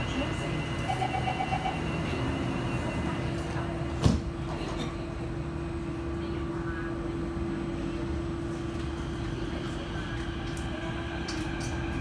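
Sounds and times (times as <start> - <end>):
metro train running rumble: 0.0 - 12.0.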